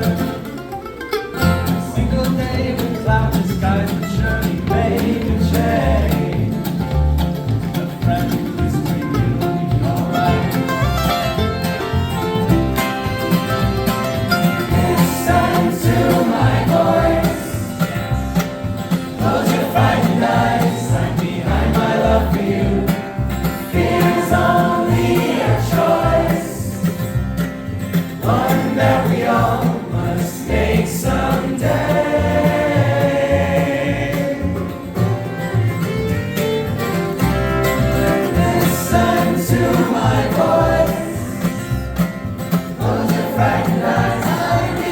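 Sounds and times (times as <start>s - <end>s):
acoustic guitar: 0.0s - 44.9s
group vocal harmonies: 1.7s - 10.9s, 14.6s - 35.2s, 37.7s - 44.9s.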